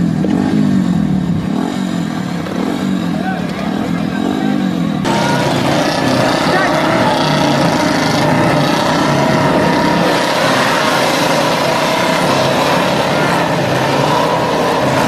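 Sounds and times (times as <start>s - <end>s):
motorcycle engines under load: 0.0s - 15.0s.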